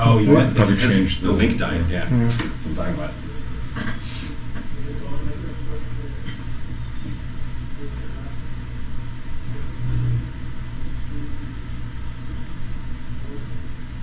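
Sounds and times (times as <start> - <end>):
low rumble and hum of room noise: 0.0 - 14.0.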